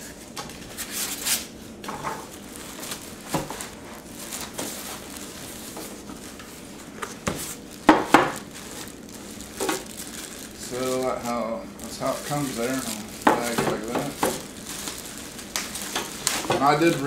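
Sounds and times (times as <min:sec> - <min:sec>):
cardboard rustling: 0:02.0 - 0:17.0
plastic wrapping crinkling: 0:02.2 - 0:17.0.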